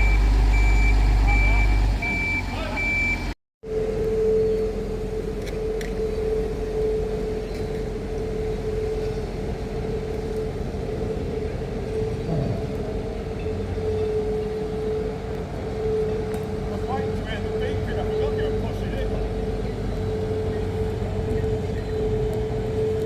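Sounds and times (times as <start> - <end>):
tram electrical hum: 0.0 - 23.0
low rumble: 3.7 - 23.0.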